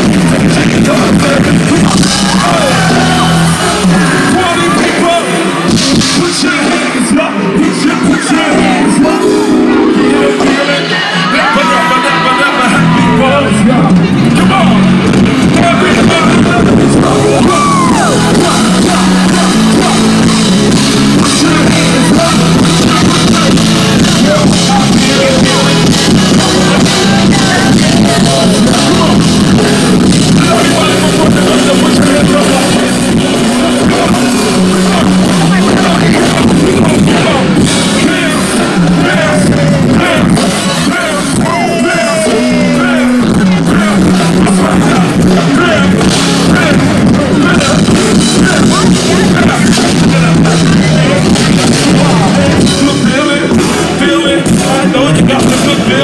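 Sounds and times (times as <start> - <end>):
crowd yelling: 0.0 - 56.0
live music through speakers: 0.0 - 56.0
repeating bass line: 0.0 - 56.0
audience shouting: 0.9 - 14.8, 15.5 - 52.6.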